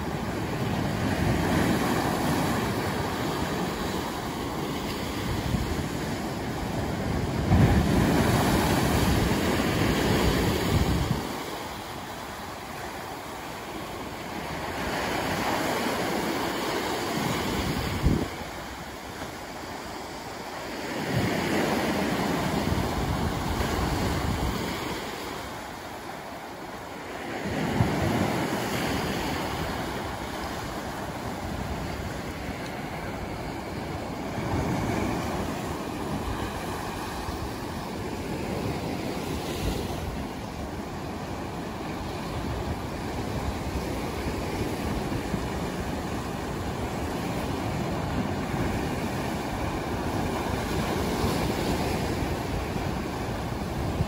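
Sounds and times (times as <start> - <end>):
waves washing up shore: 0.0 - 54.0
waves splashing on rocks: 0.1 - 54.0.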